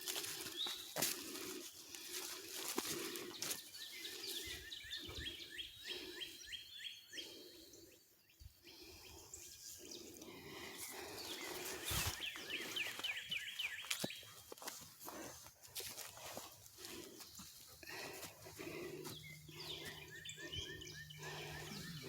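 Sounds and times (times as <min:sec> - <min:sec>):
footsteps crunching on forest floor: 0:00.0 - 0:06.0, 0:10.2 - 0:22.0
songbirds singing: 0:00.0 - 0:22.0.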